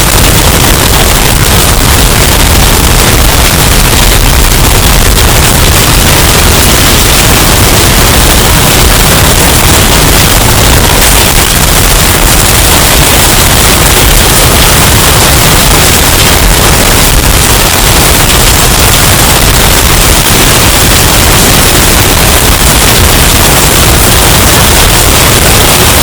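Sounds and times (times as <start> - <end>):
distorted hurricane wind: 0.0 - 26.0.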